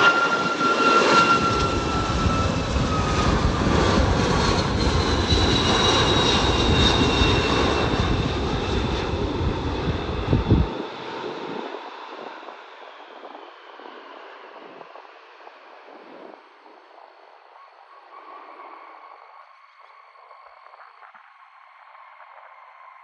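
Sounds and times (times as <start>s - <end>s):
faint high whine: 0.0s - 23.0s
jet airliner engine noise: 0.0s - 23.0s.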